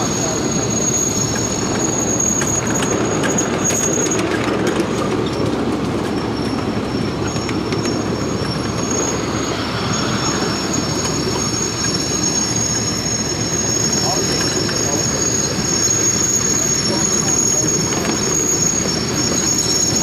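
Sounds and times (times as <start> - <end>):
high-pitched wheel squeal: 0.0 - 20.0
steel wheels rumbling on rails: 0.0 - 20.0.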